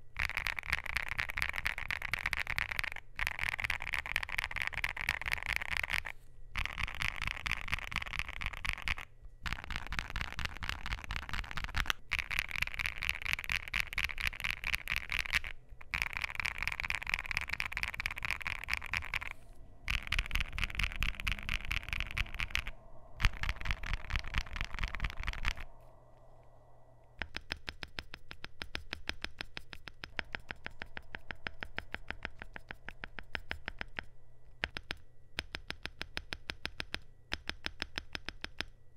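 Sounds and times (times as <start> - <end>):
mechanical keyboard typing: 0.0 - 25.7, 27.2 - 38.7.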